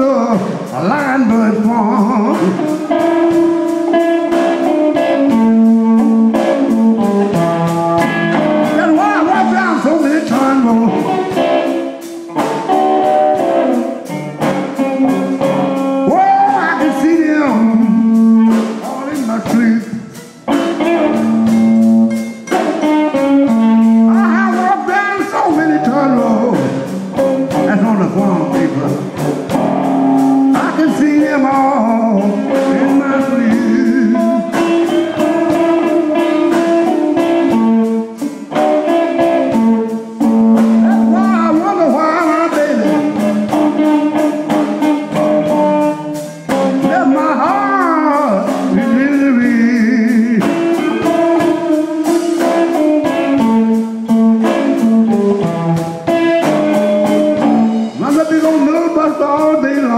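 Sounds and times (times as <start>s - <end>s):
person singing: 0.0s - 21.6s, 22.5s - 59.9s
drum kit: 0.0s - 59.9s
electric guitar: 0.0s - 59.9s.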